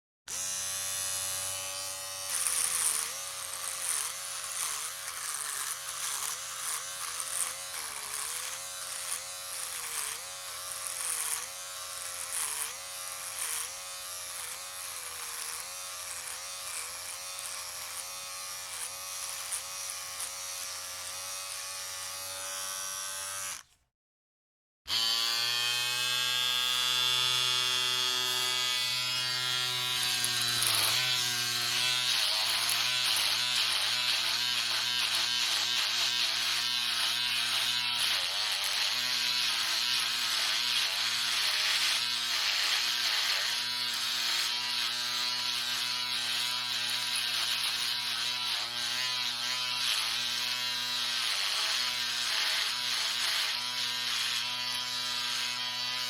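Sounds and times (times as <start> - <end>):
electric shaver buzzing: 0.3 - 23.8, 24.9 - 56.0.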